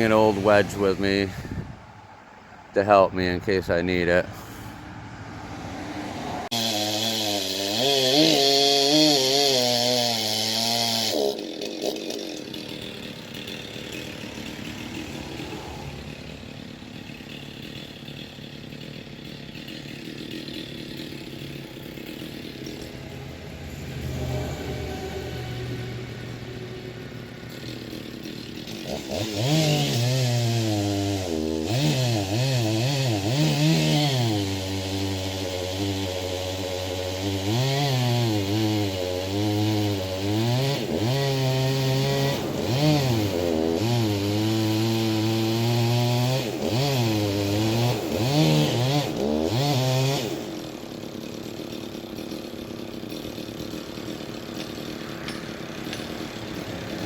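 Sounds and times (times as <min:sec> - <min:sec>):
chainsaw cutting into tree trunk: 0:05.6 - 0:57.0.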